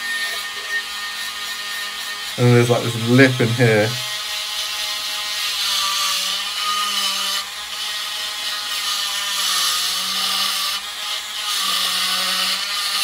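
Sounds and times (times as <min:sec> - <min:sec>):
rotary tool grinding metal: 0:00.0 - 0:13.0.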